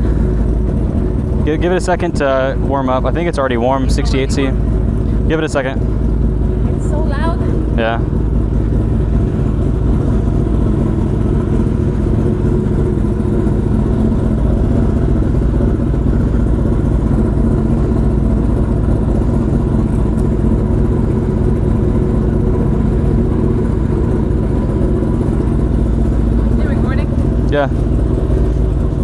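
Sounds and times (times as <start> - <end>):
motorcycle engine idling loudly: 0.0 - 29.0.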